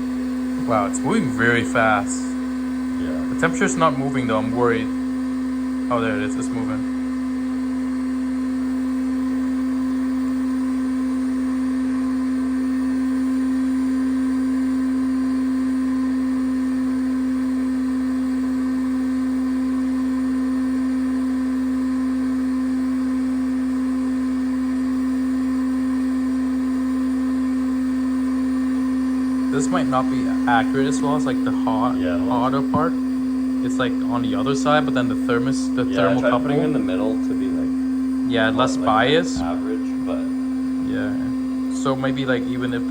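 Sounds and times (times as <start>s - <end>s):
machine humming: 0.0s - 16.2s, 24.0s - 42.9s.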